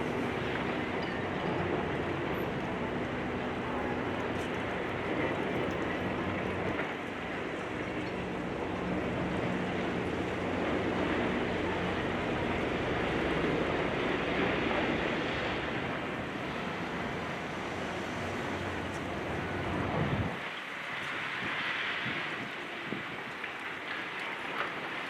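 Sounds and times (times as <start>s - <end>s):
diesel engine humming: 0.0s - 20.4s.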